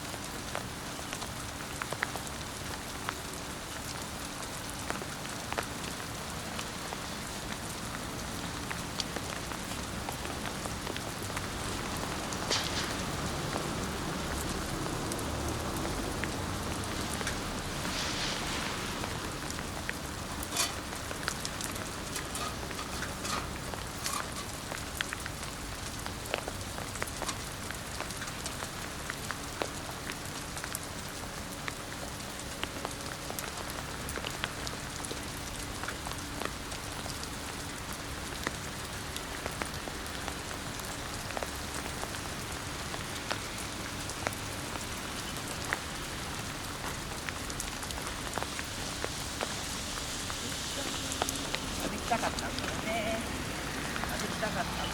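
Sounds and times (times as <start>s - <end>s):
rain hissing: 0.0s - 54.9s
sharp ticks of raindrops: 0.0s - 54.9s.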